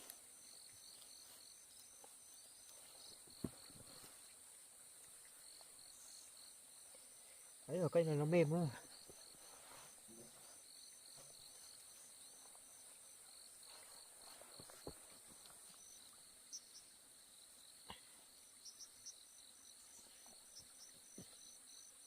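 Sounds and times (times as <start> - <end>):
faint insects chirring: 0.0 - 22.0.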